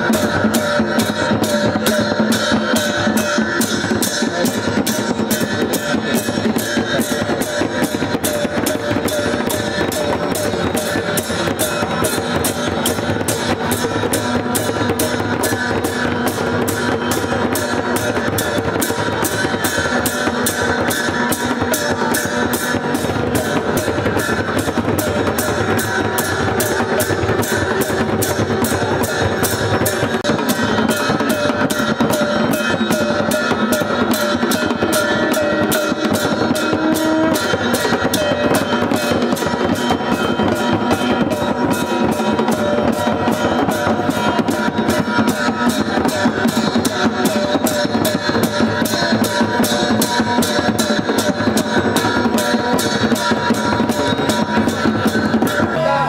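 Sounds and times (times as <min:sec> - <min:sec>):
processional drums beating: 0:00.0 - 0:56.0.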